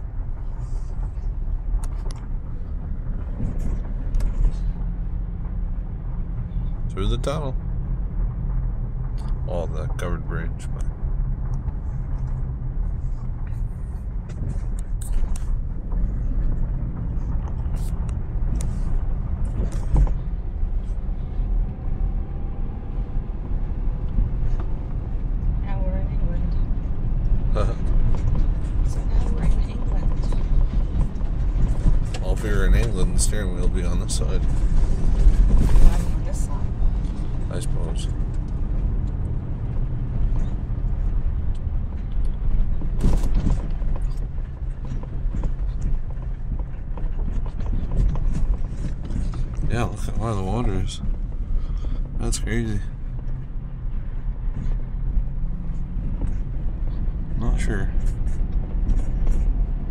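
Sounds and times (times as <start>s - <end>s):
car driving on rough dirt road: 0.0s - 59.9s.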